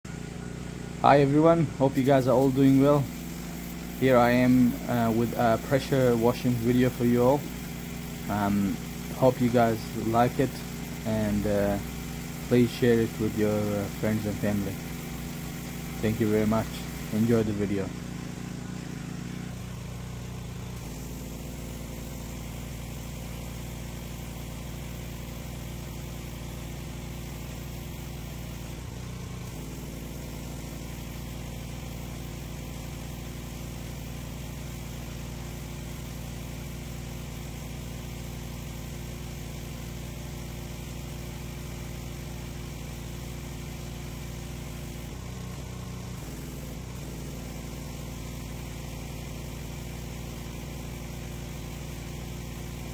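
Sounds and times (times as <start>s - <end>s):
pressure washer engine running: 0.0s - 52.9s
water jet hissing on concrete: 1.0s - 52.9s.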